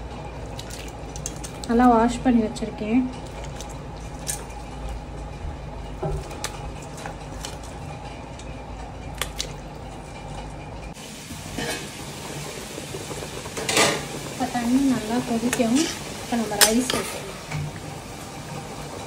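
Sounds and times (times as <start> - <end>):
pot bubbling with small pops: 0.0 - 2.2, 3.1 - 17.9.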